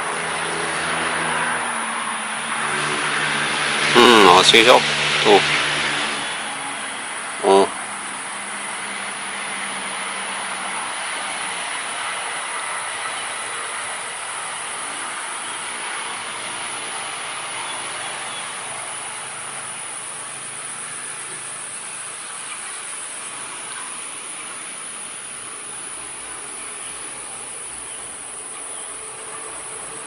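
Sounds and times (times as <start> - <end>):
insect chorus buzzing: 0.0 - 30.0.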